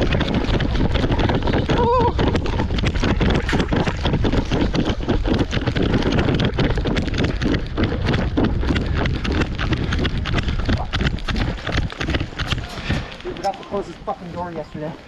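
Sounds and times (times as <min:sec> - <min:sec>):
running footsteps: 0:00.0 - 0:15.0
wind rumbling on microphone: 0:00.0 - 0:15.0.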